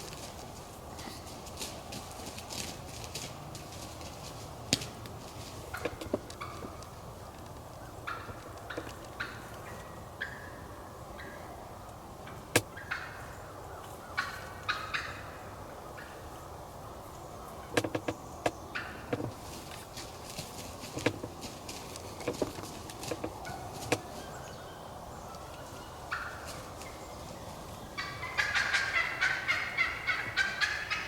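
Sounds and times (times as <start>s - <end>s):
turkeys calling: 0.9s - 31.0s.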